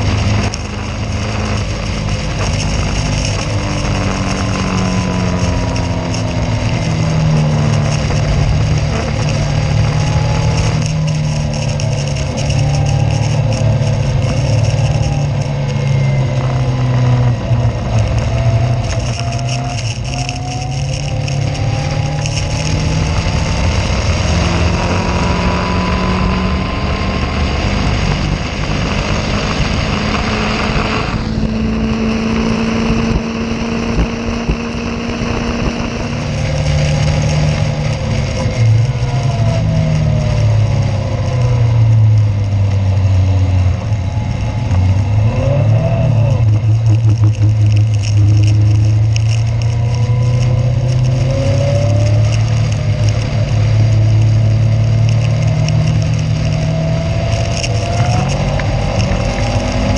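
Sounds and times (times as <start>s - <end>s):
constant rushing noise: 0.0s - 59.9s
race car engine accelerating: 0.0s - 59.9s.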